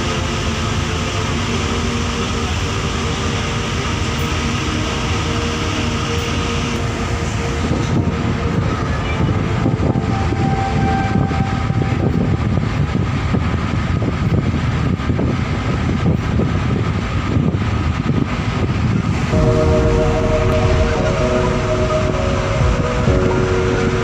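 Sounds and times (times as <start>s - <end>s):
ship engine drone: 0.0s - 24.0s
rushing air: 4.0s - 24.0s.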